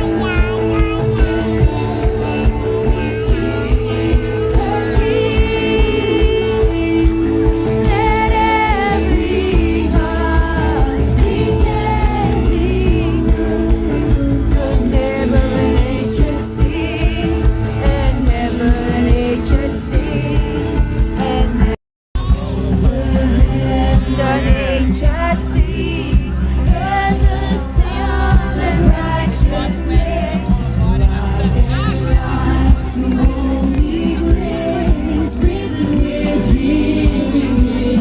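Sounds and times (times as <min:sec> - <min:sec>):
live band and singers: 0:00.0 - 0:38.0.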